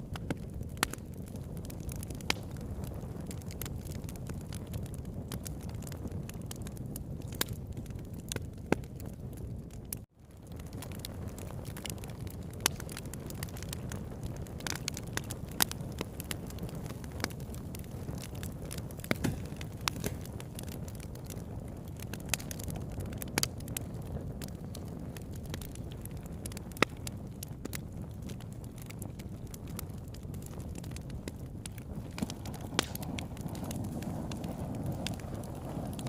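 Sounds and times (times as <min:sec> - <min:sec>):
campfire rushing: 0:00.0 - 0:36.0
fire crackling and popping: 0:00.0 - 0:36.0.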